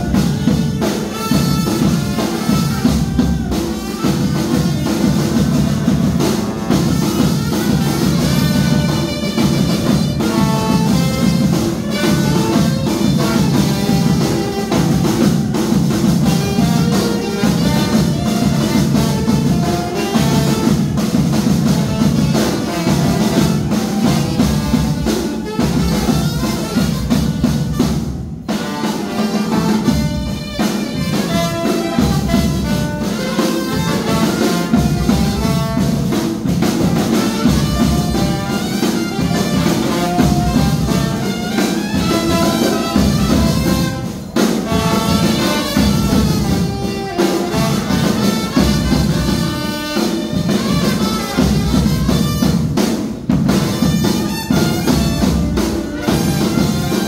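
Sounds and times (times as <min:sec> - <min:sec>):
brass band playing: 0:00.0 - 0:57.0
snare and bass drum beat: 0:00.0 - 0:57.0.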